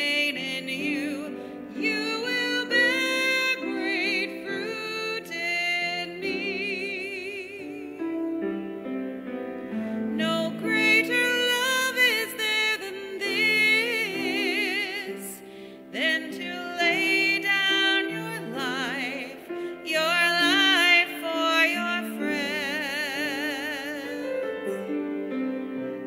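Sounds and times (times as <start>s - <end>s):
person singing a hymn: 0.0s - 26.0s.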